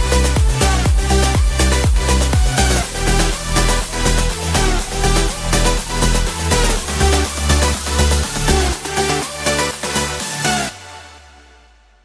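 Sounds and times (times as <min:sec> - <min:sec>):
electronic music with a beat: 0:00.0 - 0:11.5.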